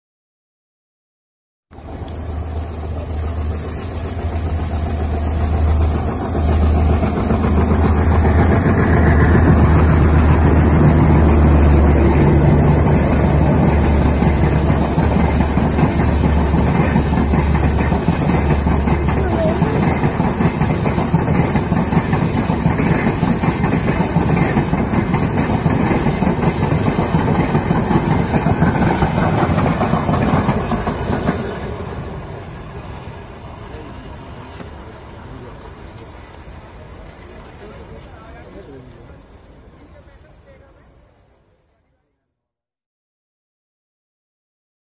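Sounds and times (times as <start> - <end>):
train wheels rumbling and clattering: 1.8 - 40.5.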